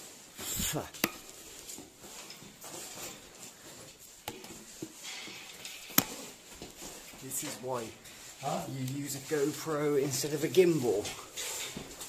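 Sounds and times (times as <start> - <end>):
scuffs and knocks on metal rungs: 0.0 - 12.0.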